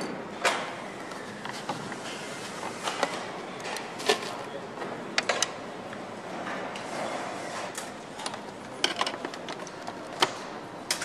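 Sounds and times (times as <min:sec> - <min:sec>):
workshop background noise: 0:00.0 - 0:11.0.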